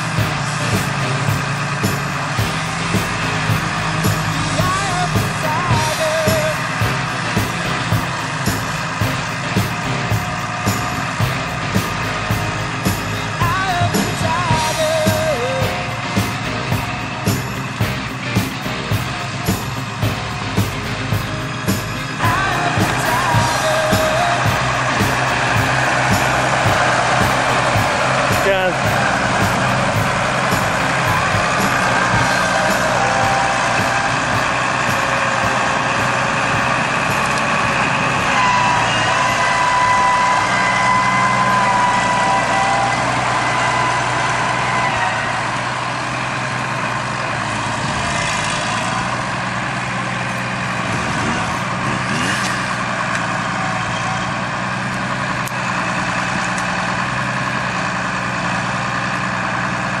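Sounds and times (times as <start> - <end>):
high whine: 0.0 - 56.8
tractor diesel engine running: 0.0 - 60.0.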